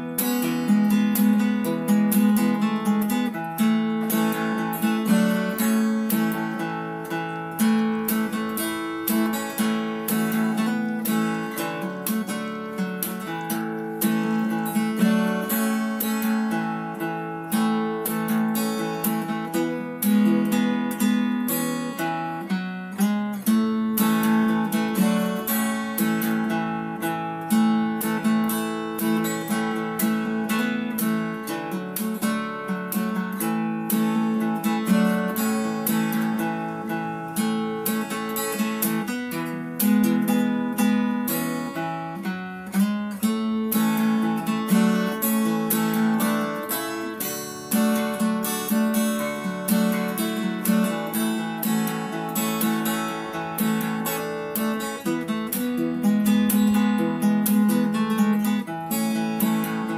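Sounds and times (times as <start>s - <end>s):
strummed acoustic guitar: 0.0s - 59.9s.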